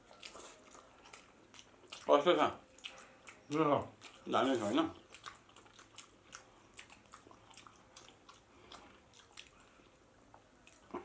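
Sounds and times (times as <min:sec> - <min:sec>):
faint chewing: 0:00.0 - 0:11.0.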